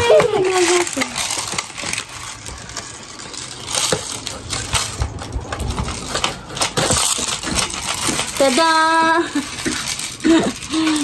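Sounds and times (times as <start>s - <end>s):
plastic clicks and rattles: 0.0s - 11.0s.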